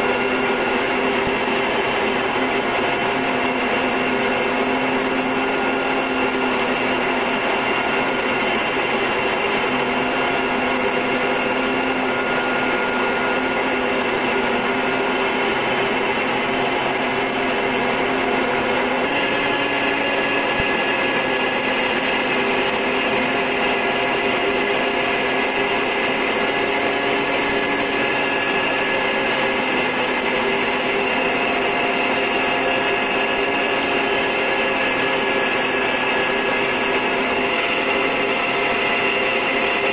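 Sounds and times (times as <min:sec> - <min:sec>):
turboprop engine droning: 0:00.0 - 0:39.9.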